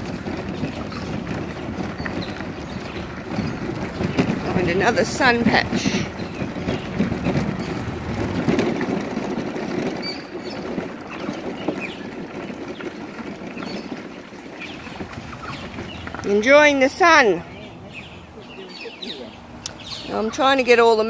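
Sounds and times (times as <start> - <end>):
trolley wheels rolling on gravel: 0.0 - 21.0.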